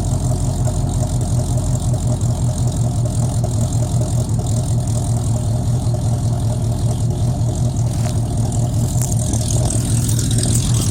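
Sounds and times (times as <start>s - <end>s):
truck engine idling: 0.0s - 10.9s.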